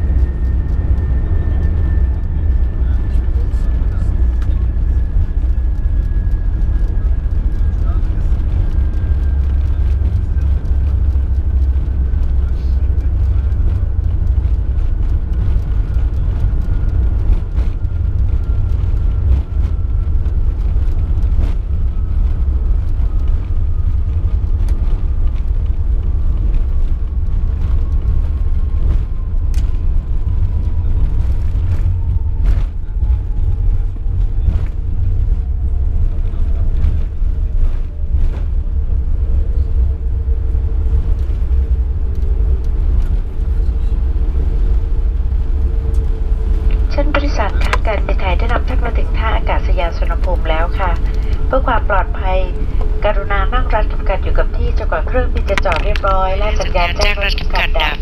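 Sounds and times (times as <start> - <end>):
deep cabin rumble: 0.0 - 58.0
steady hum: 0.0 - 58.0.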